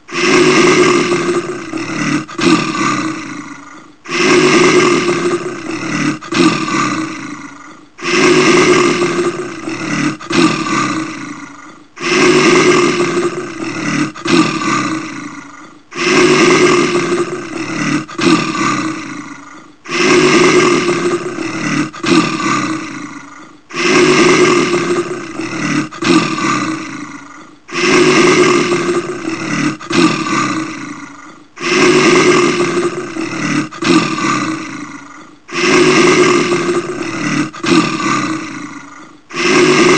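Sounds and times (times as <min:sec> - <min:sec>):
bear roaring: 0:00.0 - 0:39.9.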